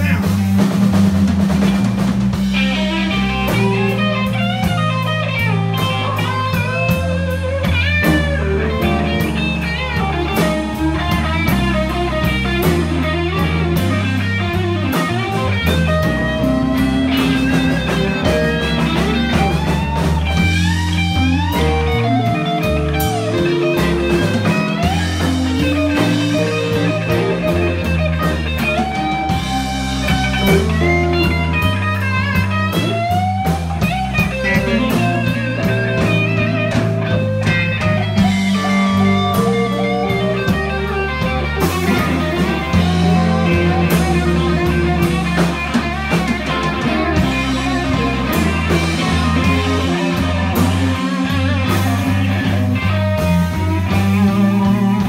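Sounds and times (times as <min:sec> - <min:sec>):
bass guitar: 0:00.0 - 0:55.0
drum kit: 0:00.0 - 0:55.0
electric guitar lead with bent notes: 0:00.0 - 0:55.0.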